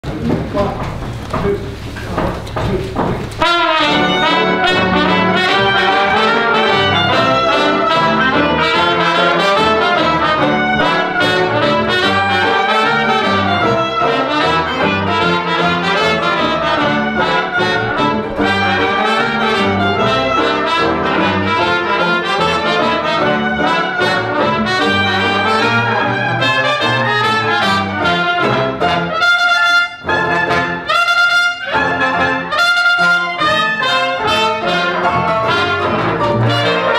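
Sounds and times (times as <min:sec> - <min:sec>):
dixieland jazz band playing: 0:03.0 - 0:36.9.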